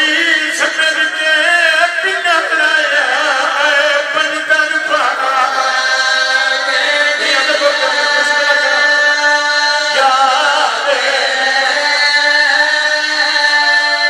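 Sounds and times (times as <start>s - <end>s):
man chanting a mournful lament: 0.0s - 14.0s.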